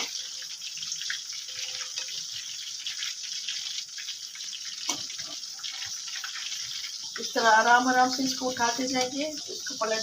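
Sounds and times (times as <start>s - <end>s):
deep-frying sizzle with crackles: 0.0s - 10.0s.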